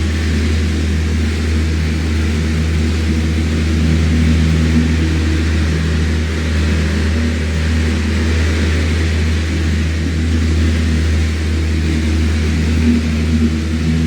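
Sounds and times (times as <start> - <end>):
electric fan motor hum: 0.0 - 14.0
rush of moving air: 0.0 - 14.0.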